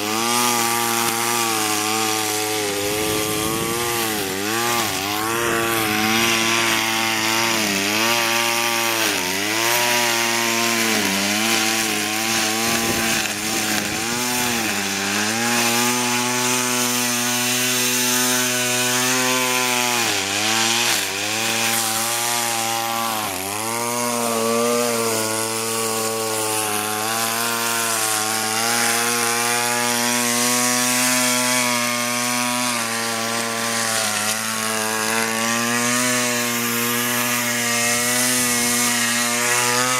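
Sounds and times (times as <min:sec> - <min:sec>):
string trimmer engine running: 0:00.0 - 0:39.9.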